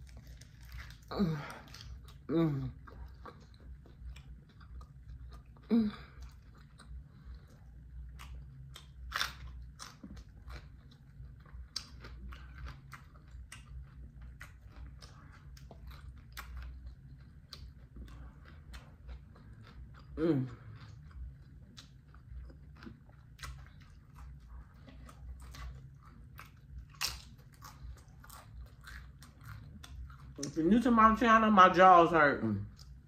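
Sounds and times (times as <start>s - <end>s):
person chewing crunchy lettuce: 0.0s - 31.3s, 32.4s - 33.0s.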